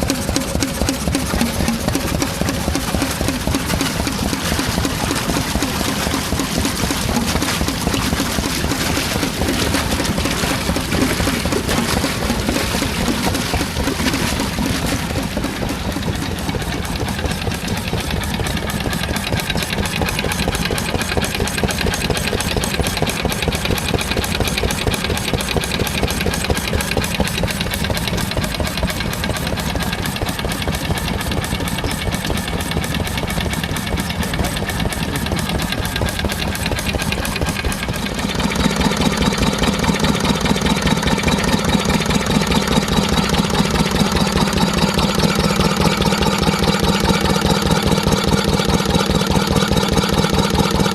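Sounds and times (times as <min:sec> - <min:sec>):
stationary engine running: 0:00.0 - 0:50.9.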